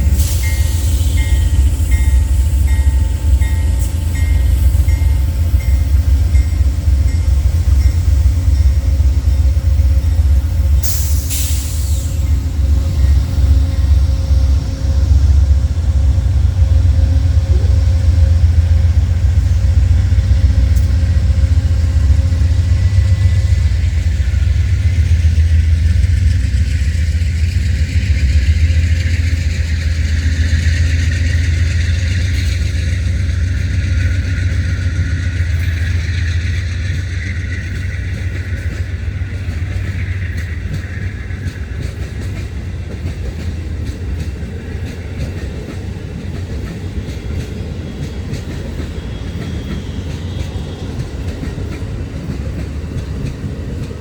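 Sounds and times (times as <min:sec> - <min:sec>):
train rumbling: 0:00.0 - 0:54.0
wheel and rail hiss: 0:00.0 - 0:54.0.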